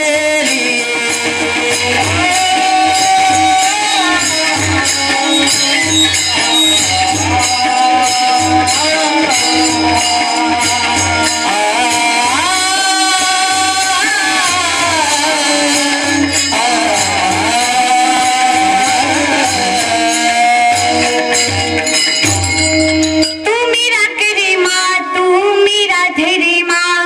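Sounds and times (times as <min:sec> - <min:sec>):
hand cymbals clashing: 0:00.5 - 0:23.6.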